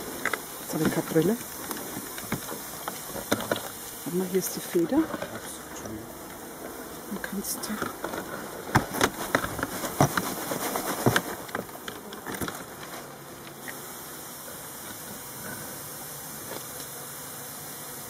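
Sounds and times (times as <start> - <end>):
feather sweeping through bees: 0.0 - 18.0
honeybees buzzing: 0.0 - 18.0.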